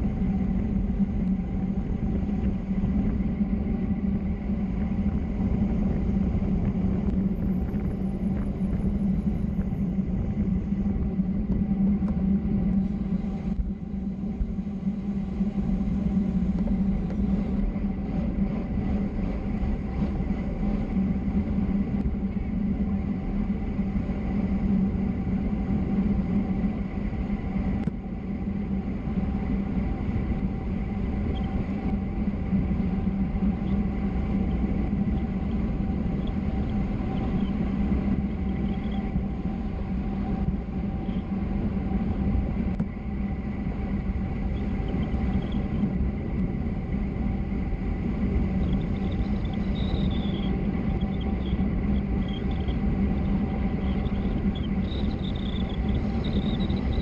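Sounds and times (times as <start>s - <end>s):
faint steady hum: 0.0s - 57.0s
rushing wind: 0.0s - 57.0s.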